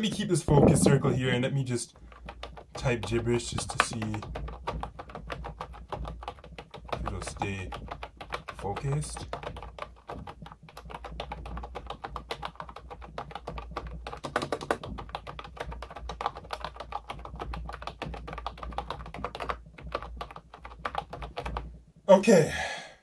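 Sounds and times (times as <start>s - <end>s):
fast keyboard typing: 0.0s - 21.8s.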